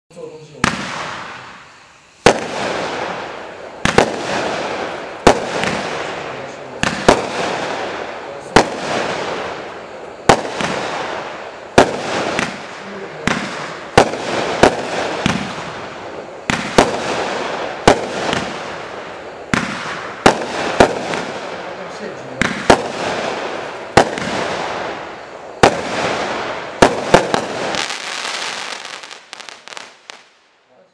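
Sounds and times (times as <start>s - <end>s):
firework shots banging: 0.6s - 30.4s.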